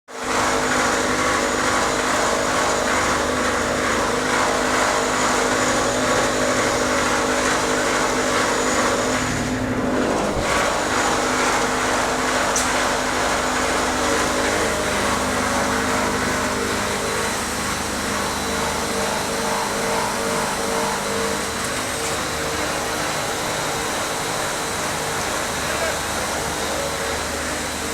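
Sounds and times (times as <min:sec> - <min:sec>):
recycling machine running: 0:00.1 - 0:27.9.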